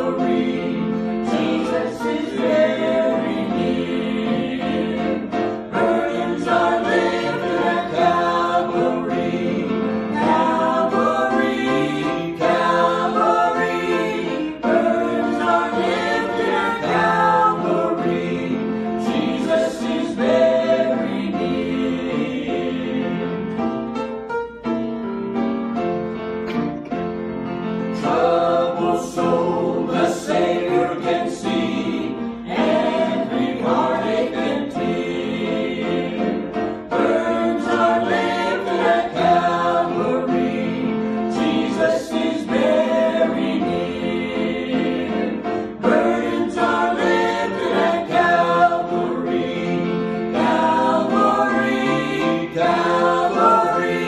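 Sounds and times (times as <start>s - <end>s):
vocal quartet singing a hymn: 0.0s - 24.2s, 27.6s - 54.0s.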